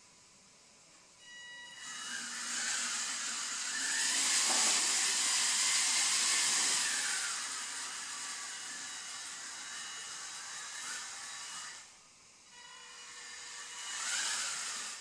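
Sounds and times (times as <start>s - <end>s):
robot drive motors whirring: 1.6s - 11.9s, 12.5s - 15.0s.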